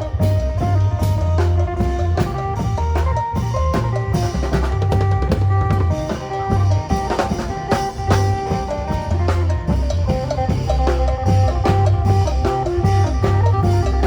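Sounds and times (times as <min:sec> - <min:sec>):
drum kit and bass beat: 0:00.0 - 0:14.0.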